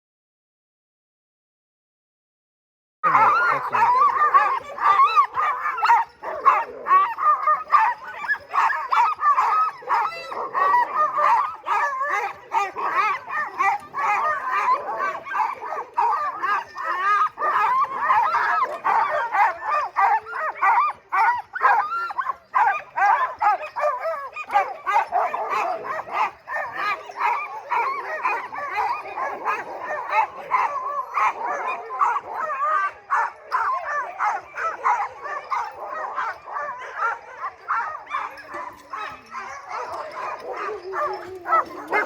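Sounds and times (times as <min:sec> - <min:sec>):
dogs barking yipping and whining: 0:03.0 - 0:42.0.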